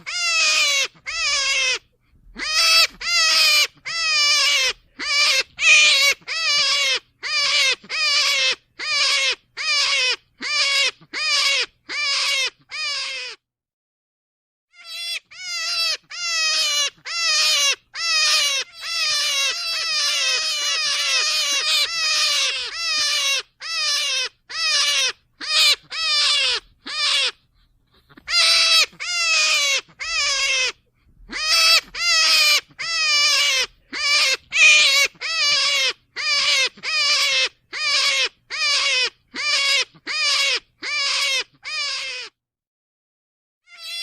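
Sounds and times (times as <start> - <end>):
rabbit giving shrill cries: 0.0 - 13.4, 14.7 - 42.4, 43.6 - 44.0.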